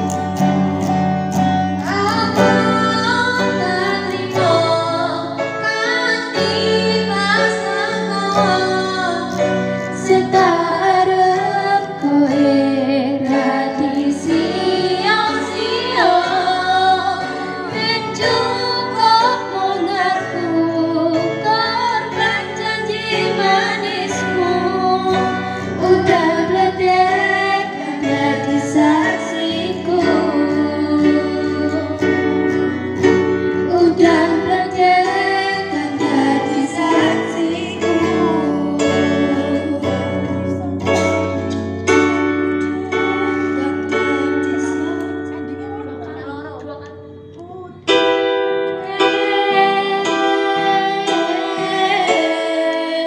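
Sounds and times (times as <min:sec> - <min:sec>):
acoustic guitar: 0:00.0 - 0:53.0
woman singing pop song: 0:01.8 - 0:48.1, 0:48.7 - 0:53.0.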